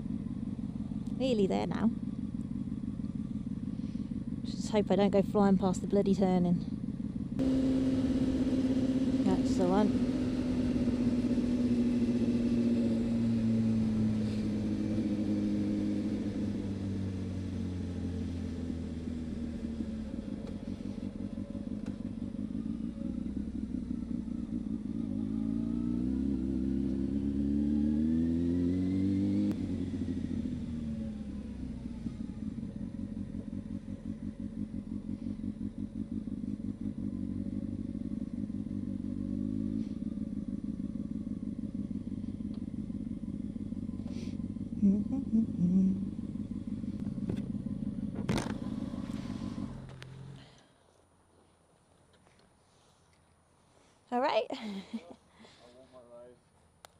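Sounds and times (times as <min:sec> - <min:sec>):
motorcycle engine revving: 0:00.0 - 0:50.7.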